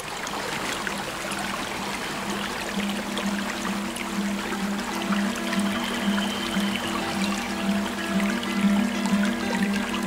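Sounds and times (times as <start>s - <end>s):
creek water rippling over rocks: 0.0s - 10.0s
soft sustained music notes: 1.8s - 10.0s.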